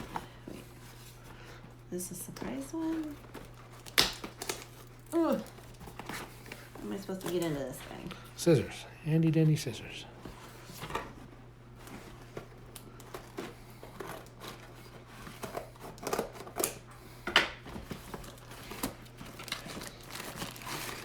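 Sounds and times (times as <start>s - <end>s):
packaging handling: 0.0s - 8.5s, 10.2s - 16.9s, 17.6s - 21.0s.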